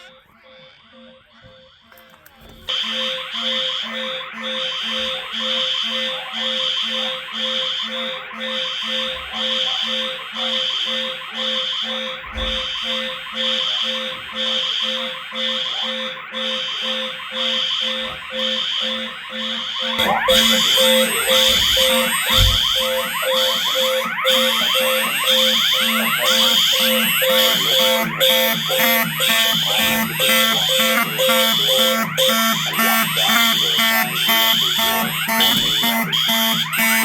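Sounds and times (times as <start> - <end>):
alarm tone: 0.0 - 37.0
pulsing fire alarm horns: 0.0 - 37.0.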